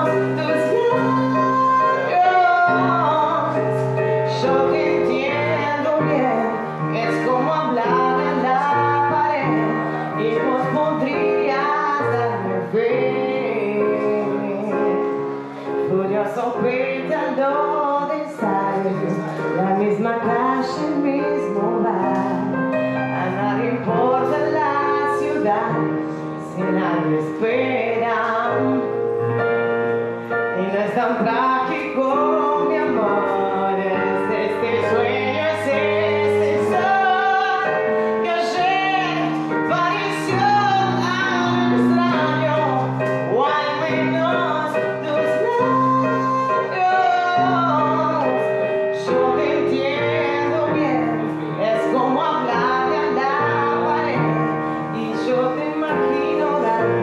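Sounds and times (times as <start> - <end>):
woman singing: 0.0 - 29.4, 30.4 - 57.0
digital piano chords: 0.0 - 57.0.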